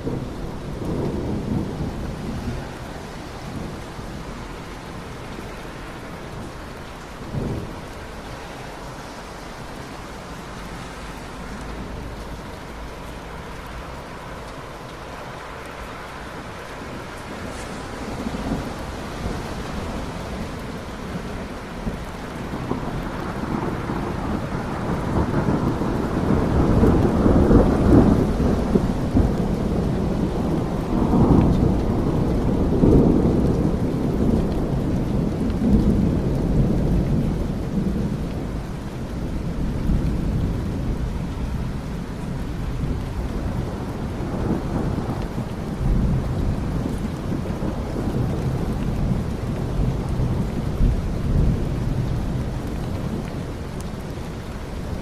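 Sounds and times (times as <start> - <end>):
steady rain: 0.0 - 55.0
thunder rumbling: 0.0 - 55.0.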